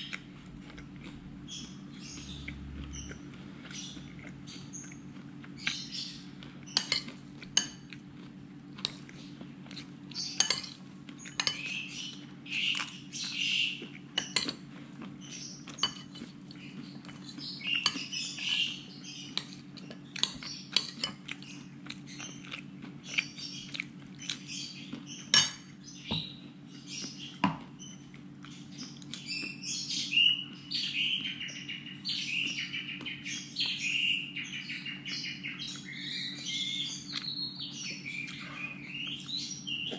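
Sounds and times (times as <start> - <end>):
birds chirping and warbling: 0.0 - 39.9
steady low hum: 0.0 - 39.9.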